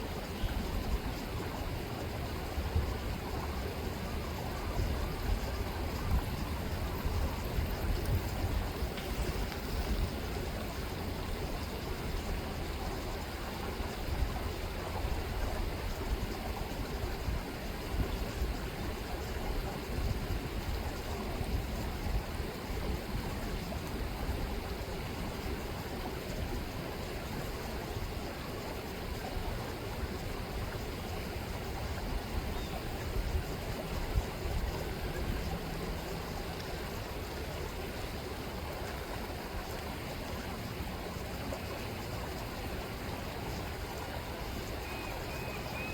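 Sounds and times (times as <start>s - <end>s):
river rippling and rushing: 0.0s - 45.9s.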